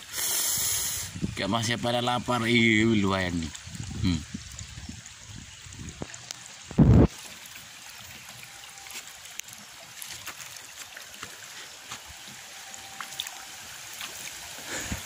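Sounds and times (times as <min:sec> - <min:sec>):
fish feeding at water surface: 0:02.3 - 0:15.0.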